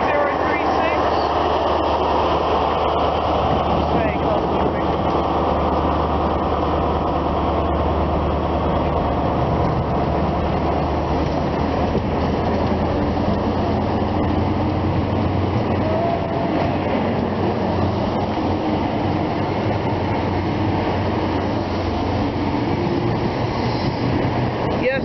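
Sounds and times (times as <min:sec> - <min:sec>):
train rolling past rumbling: 0:00.0 - 0:25.0.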